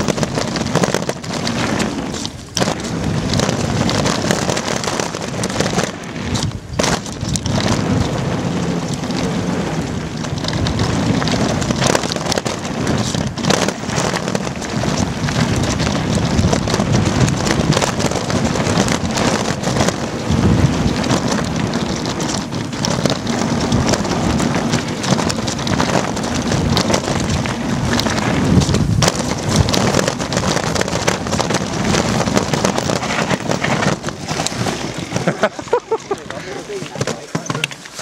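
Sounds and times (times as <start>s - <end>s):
bike rattling and knocking: 0.0s - 38.0s
tyres crunching over stones: 0.0s - 38.0s
wind buffeting microphone: 0.0s - 38.0s.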